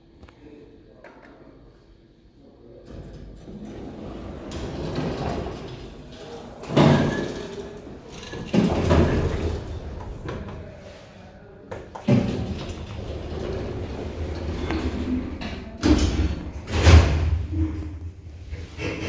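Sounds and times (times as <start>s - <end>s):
lift doors sliding open: 2.9s - 11.0s, 11.9s - 19.0s.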